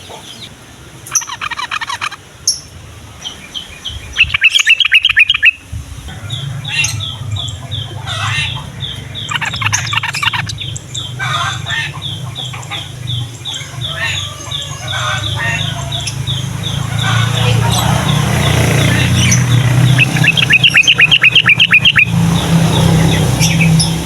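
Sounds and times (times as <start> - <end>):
bird rapid chattering song: 1.1 - 24.0
bird short high calls: 3.9 - 23.9.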